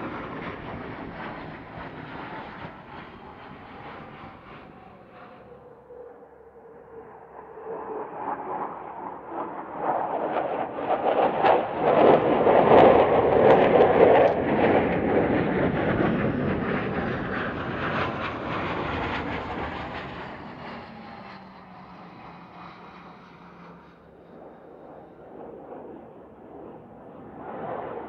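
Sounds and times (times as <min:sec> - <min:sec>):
loud jet engine noise crackling: 0:00.0 - 0:05.6, 0:09.3 - 0:28.0.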